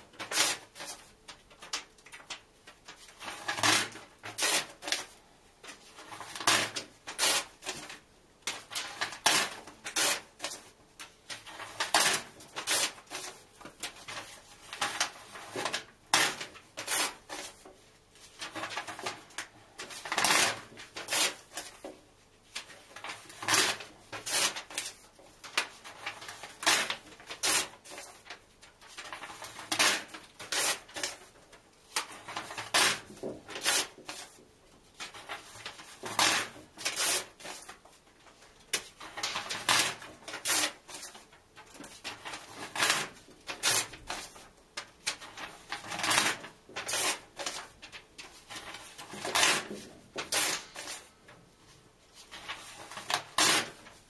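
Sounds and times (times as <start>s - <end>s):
paper pages tearing: 3.2s - 5.1s, 6.0s - 10.7s, 11.3s - 17.6s, 18.4s - 21.8s, 22.6s - 31.3s, 32.0s - 34.4s, 35.0s - 37.8s, 39.0s - 51.1s, 52.2s - 54.0s.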